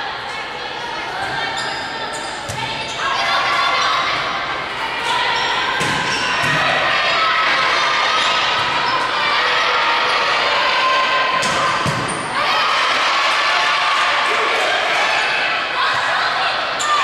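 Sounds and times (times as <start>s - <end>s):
voices echoing in a hall: 0.0s - 17.0s.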